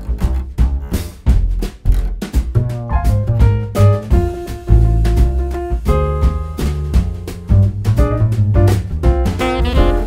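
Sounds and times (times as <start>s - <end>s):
jazz music with double bass: 0.0s - 10.0s.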